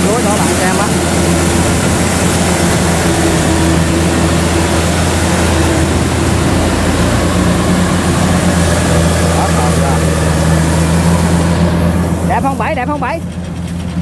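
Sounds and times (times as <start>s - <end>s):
diesel engine drone: 0.0s - 14.0s
threshing machinery whirr: 0.0s - 14.0s.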